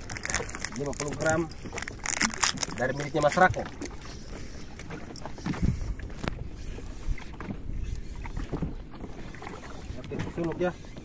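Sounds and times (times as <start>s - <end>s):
wind and water on a boat: 0.0s - 11.0s.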